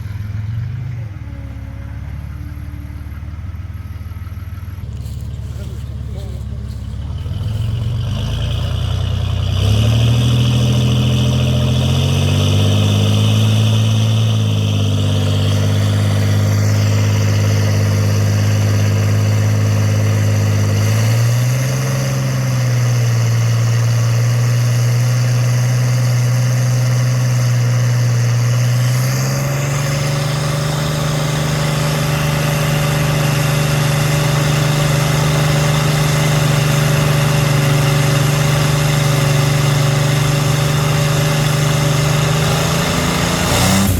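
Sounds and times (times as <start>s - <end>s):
engine running at low revs: 0.0s - 43.9s.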